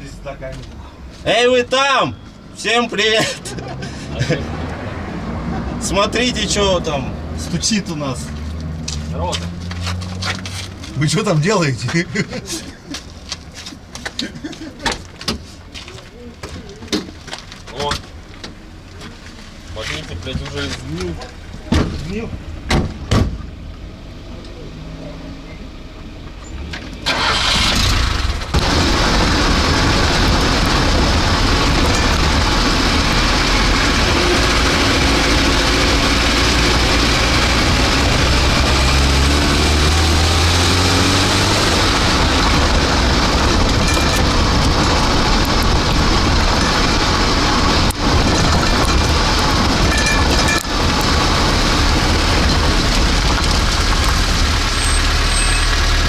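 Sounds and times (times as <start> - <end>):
car engine starting and running: 2.5 - 13.3, 19.7 - 56.0.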